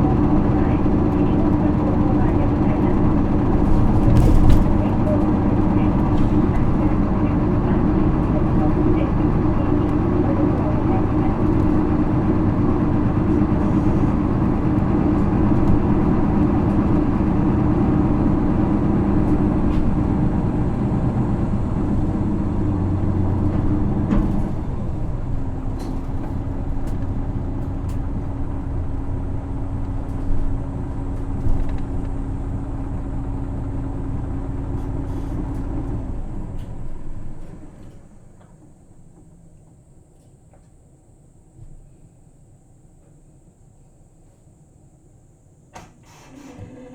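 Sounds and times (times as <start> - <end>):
bus diesel engine running: 0.0 - 43.7
engine idling hum: 0.0 - 45.7.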